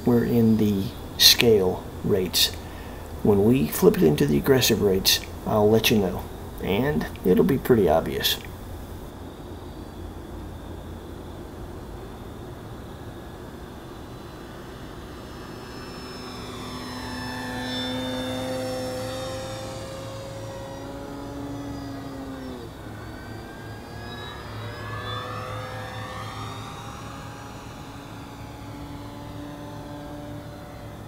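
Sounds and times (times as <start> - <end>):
model plane motor whine: 0.0 - 31.0.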